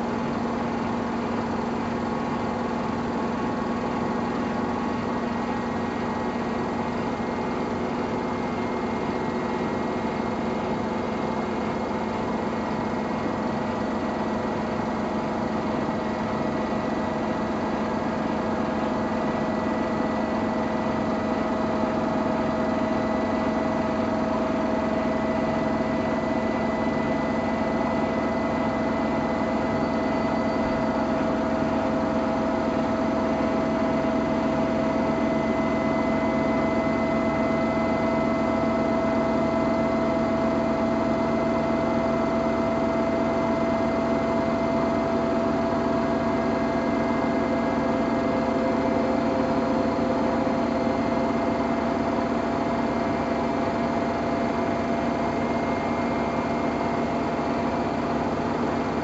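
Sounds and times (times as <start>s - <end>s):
washing machine motor hum and whine: 0.0s - 59.0s.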